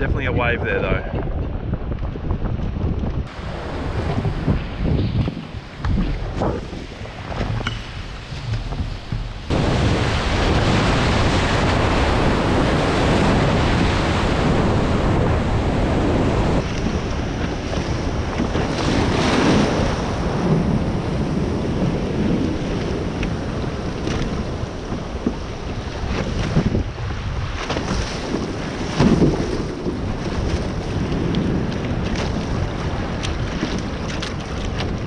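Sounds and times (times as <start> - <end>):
surf rushing around hull: 0.0 - 35.0
wind buffeting microphone: 0.0 - 35.0.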